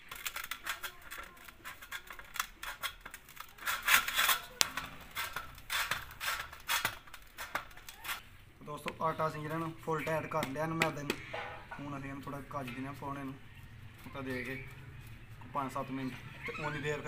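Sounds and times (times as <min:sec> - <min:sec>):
hands kneading dough: 0:00.0 - 0:16.6.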